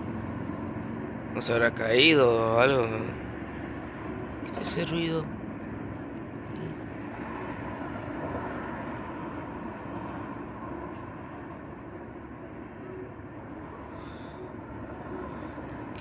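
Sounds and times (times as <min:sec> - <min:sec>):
steady rumbling noise: 0:00.0 - 0:16.0.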